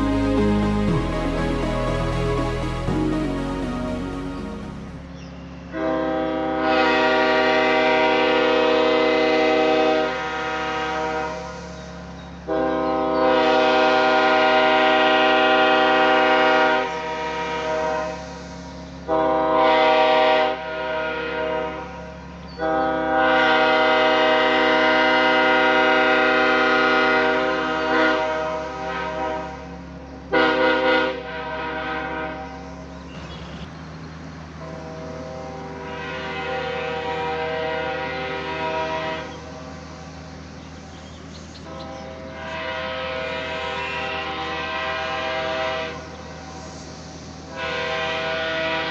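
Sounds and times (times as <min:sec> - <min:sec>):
train horn blasts: 0:00.0 - 0:11.7, 0:12.4 - 0:32.8, 0:34.6 - 0:39.8, 0:41.6 - 0:46.4, 0:47.5 - 0:48.9.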